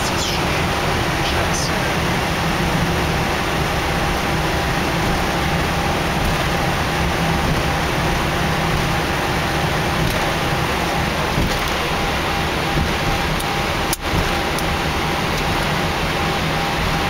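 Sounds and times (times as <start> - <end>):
aircraft cockpit noise: 0.0 - 17.0.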